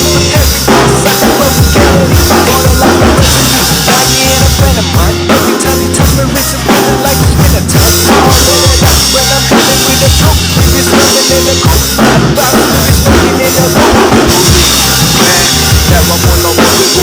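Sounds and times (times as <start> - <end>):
backing track with bass line: 0.0 - 17.0
drum kit playing: 0.0 - 17.0.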